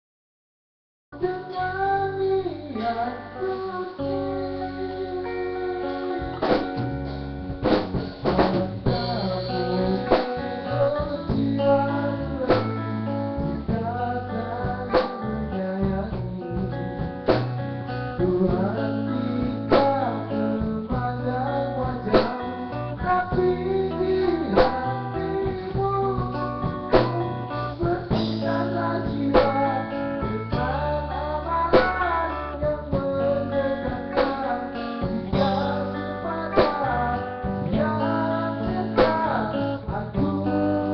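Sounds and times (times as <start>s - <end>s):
bass guitar: 1.1s - 40.9s
guitar: 1.1s - 40.9s
drum kit steady beat: 5.9s - 40.9s.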